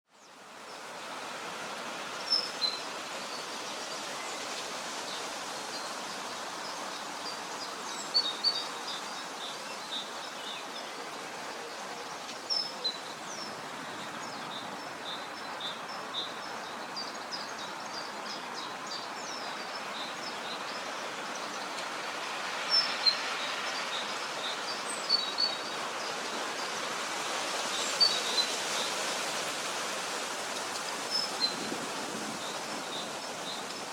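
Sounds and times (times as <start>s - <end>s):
outdoor ambience hiss: 0.1s - 33.9s
wild birds singing: 2.0s - 27.0s, 27.6s - 33.9s.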